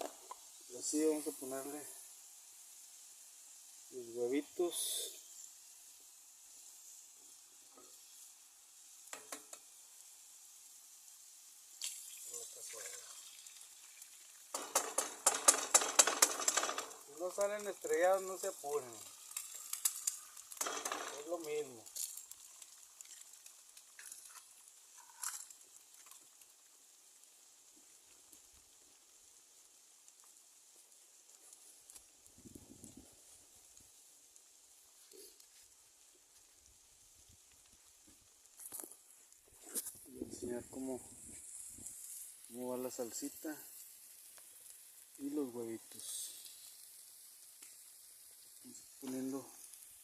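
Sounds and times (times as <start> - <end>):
eggs sizzling: 0.0 - 50.0.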